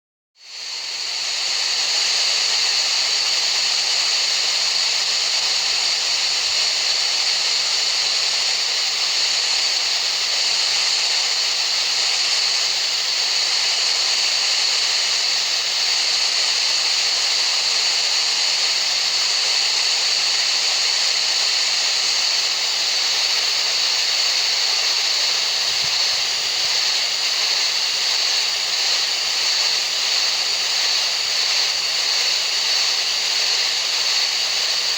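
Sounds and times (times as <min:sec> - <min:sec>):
continuous even hiss: 0:00.8 - 0:34.9.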